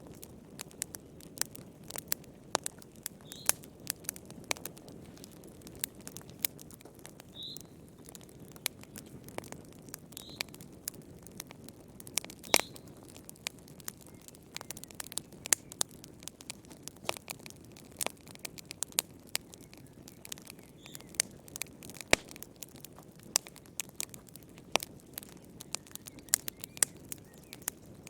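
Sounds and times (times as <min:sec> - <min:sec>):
low rush of flame: 0:00.0 - 0:28.0
wood fire crackling: 0:00.0 - 0:28.0.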